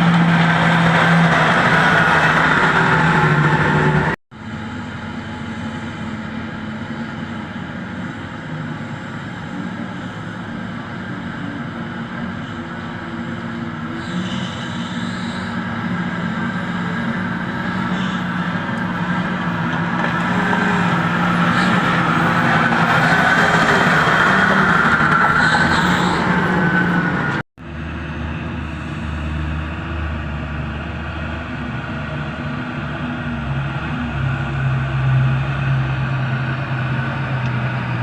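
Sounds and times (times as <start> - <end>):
deep engine rumble: 0.0 - 38.0
engine whine: 0.0 - 38.0
heavy machinery engines: 0.0 - 38.0.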